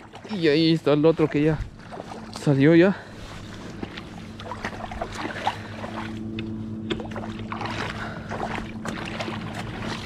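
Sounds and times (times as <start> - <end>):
river water rushing and splashing: 0.0 - 10.0
steady low hum: 0.0 - 10.0.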